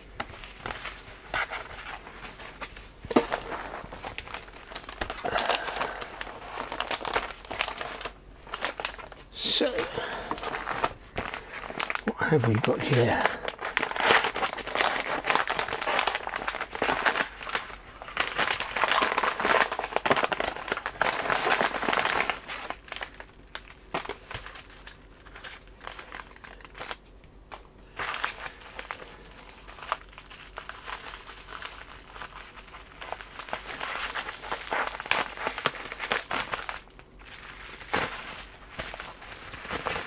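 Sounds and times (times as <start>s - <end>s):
bubble-wrap bag crackling: 0.0s - 27.1s, 28.0s - 40.0s
paper wrapper rustling: 0.0s - 40.0s.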